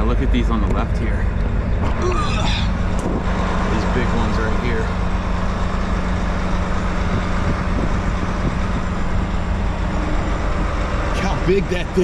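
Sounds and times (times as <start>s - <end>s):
road noise: 0.0s - 12.0s
truck engine droning: 0.0s - 12.0s.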